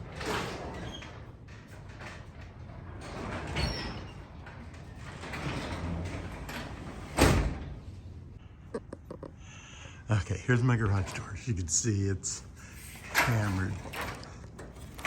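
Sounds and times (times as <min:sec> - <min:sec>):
garage door rumbling: 0:00.0 - 0:08.5, 0:10.5 - 0:15.0.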